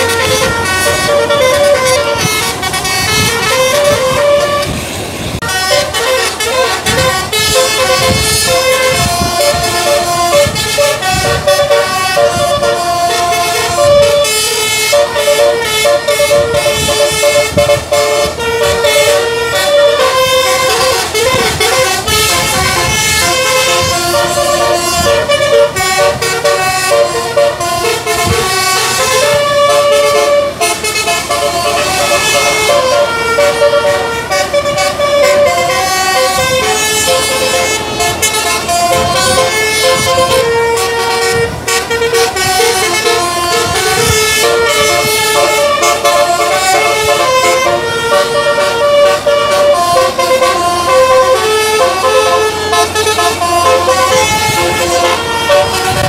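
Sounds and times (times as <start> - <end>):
bus engine running: 0.0 - 56.0
musical bus horn melody: 0.0 - 56.0.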